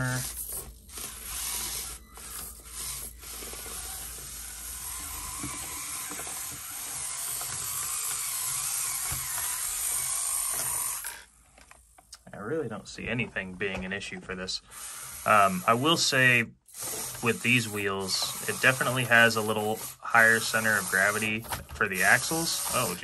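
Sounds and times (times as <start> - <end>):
electric motor whining and grinding: 0.0 - 11.3, 14.6 - 23.0.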